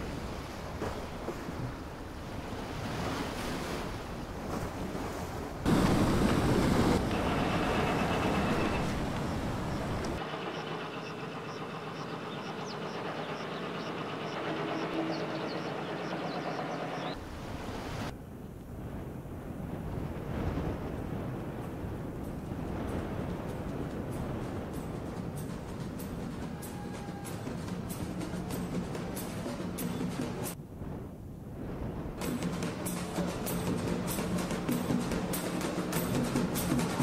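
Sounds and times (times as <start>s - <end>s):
surf: 0.0s - 37.0s
wind: 0.0s - 37.0s.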